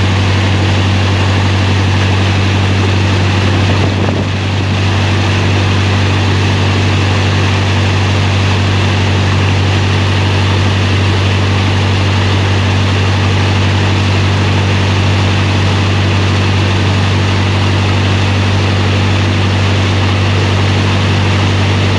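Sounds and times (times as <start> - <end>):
motorboat engine droning: 0.0 - 21.9.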